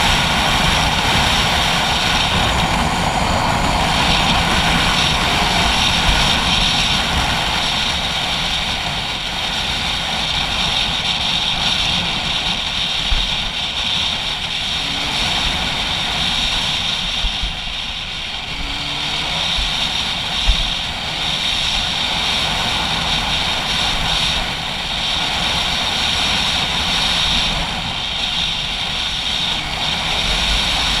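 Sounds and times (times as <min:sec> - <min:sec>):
dirt bike engine running: 0:00.0 - 0:31.0
wind buffeting microphone: 0:00.0 - 0:31.0.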